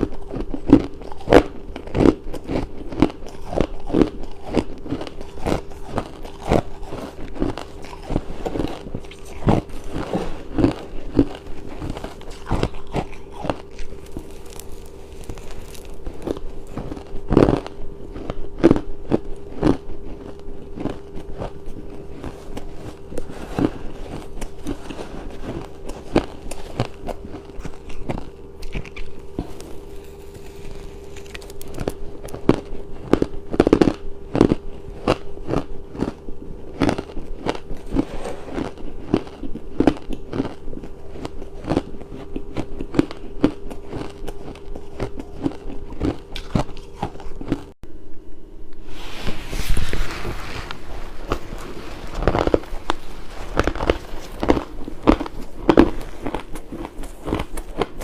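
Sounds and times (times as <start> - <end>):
chewing and crunching ice: 0.0 - 47.8, 50.6 - 58.0
faint steady hum: 0.0 - 58.0.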